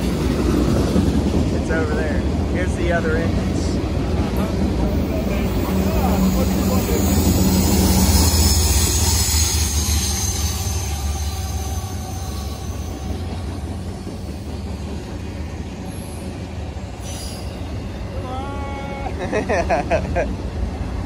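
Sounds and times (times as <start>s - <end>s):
train wheels clattering on rails: 0.0s - 18.0s
diesel locomotive drone: 0.0s - 21.0s.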